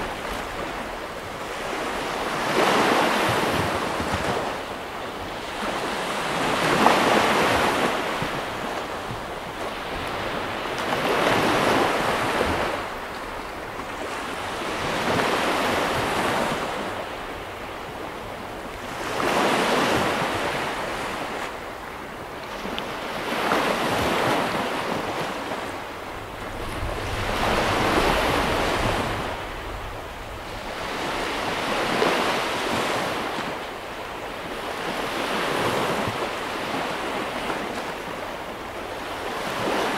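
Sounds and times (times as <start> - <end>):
waves washing up a beach: 0.0 - 39.9.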